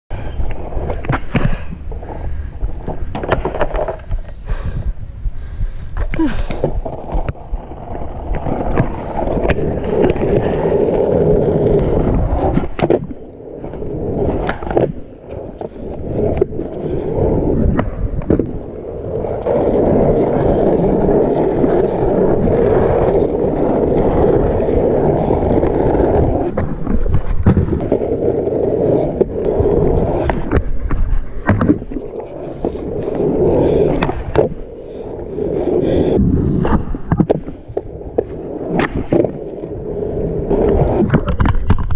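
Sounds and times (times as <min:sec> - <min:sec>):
longboard wheels rolling on asphalt: 0:00.1 - 0:41.9.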